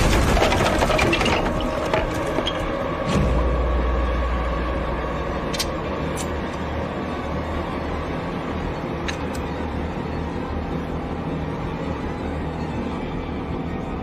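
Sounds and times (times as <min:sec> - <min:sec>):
deep low rumble drone: 0:00.0 - 0:14.0.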